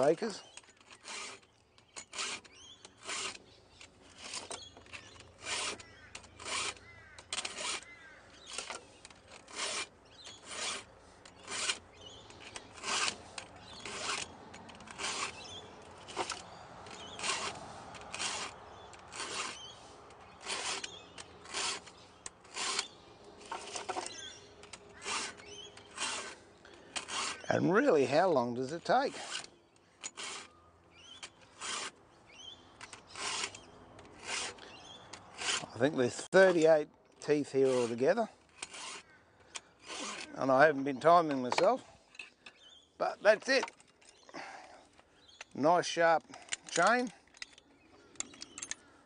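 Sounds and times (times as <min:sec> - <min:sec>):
files rasping on chainsaw chain: 0:00.0 - 0:48.9.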